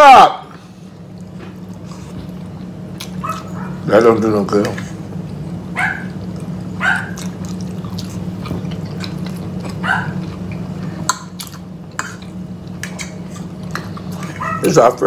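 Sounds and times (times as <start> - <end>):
chewing and lip smacking: 0.9 - 14.8.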